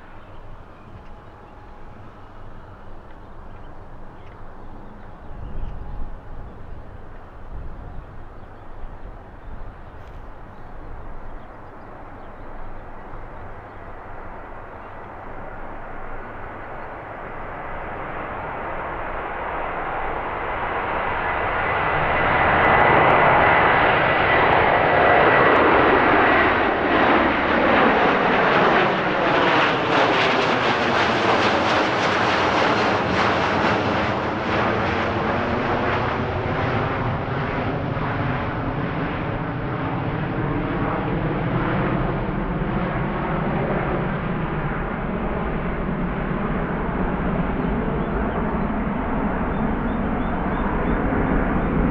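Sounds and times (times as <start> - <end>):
jet engine roar: 0.0 - 51.9.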